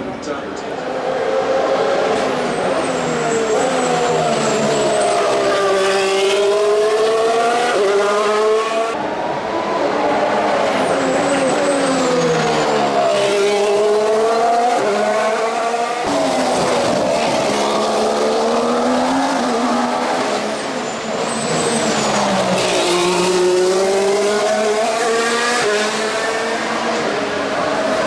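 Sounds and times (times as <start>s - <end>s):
racing car engine: 0.2s - 28.0s.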